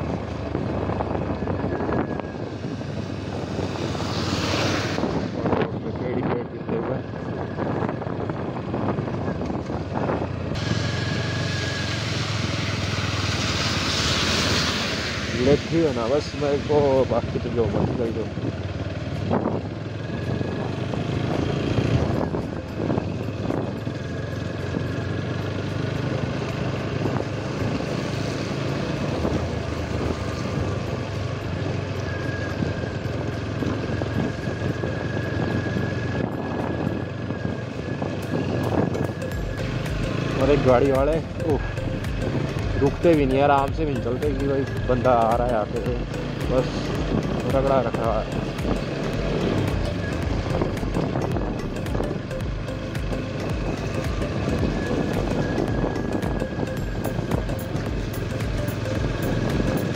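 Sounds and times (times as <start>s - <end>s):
motorcycle engine running: 0.0s - 59.9s
wind and tyres on wet road: 0.0s - 59.9s.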